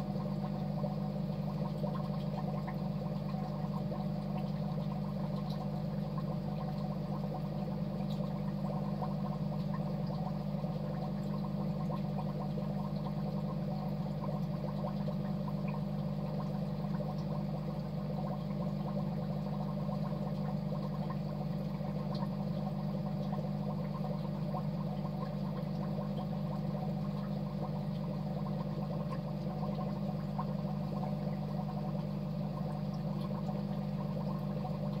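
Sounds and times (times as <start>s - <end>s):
aquarium water bubbling: 0.0s - 35.0s.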